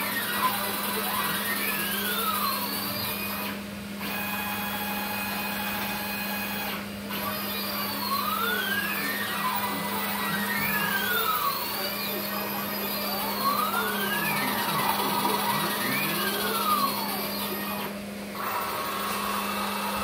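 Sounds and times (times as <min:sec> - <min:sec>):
low machine hum: 0:00.0 - 0:20.0
stepper motors whining: 0:00.0 - 0:20.0.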